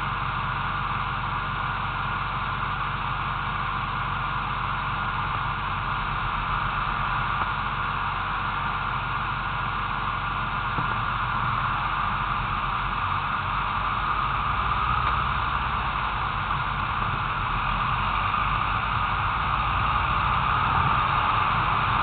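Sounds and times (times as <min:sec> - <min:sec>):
road and wind noise: 0:03.9 - 0:22.0.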